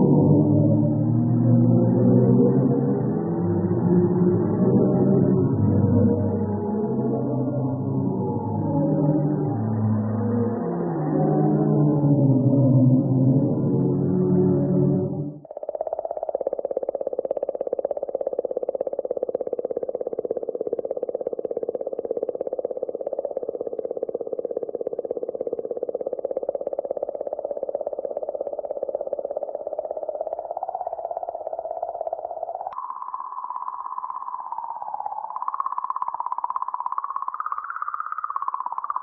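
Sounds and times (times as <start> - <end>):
buzzing pulsed drone: 0.0 - 39.0.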